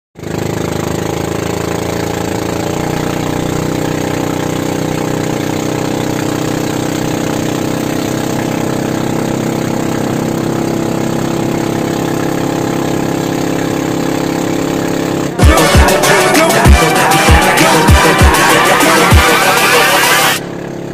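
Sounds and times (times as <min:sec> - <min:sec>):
boat engine running steadily: 0:00.2 - 0:20.9.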